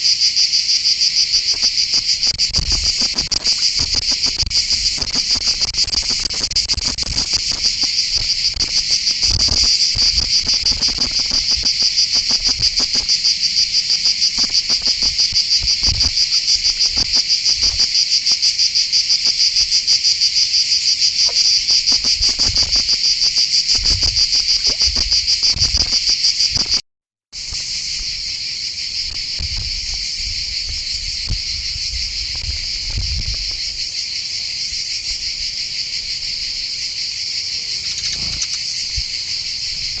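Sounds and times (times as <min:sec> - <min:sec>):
pulsing insect chorus: 0:00.0 - 0:26.8, 0:27.4 - 0:40.0.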